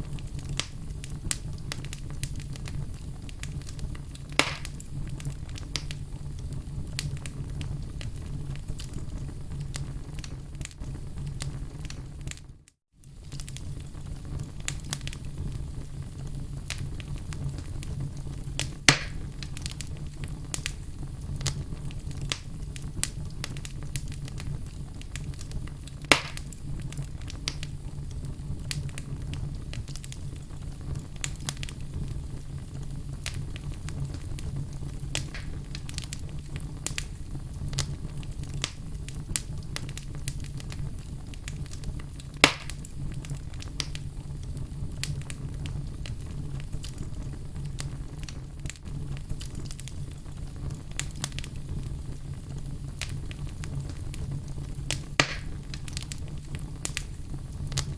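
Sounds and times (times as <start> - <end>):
fire low rumble: 0.0 - 57.9
loud fire pops: 0.0 - 57.9
wood fire crackling: 0.0 - 57.9.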